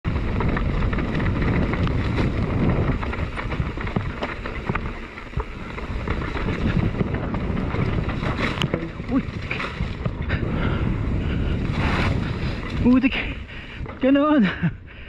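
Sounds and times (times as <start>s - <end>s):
bike rattling over bumps: 0.0s - 15.0s
bike tyre noise: 0.0s - 15.0s
wind buffeting microphone: 0.0s - 15.0s.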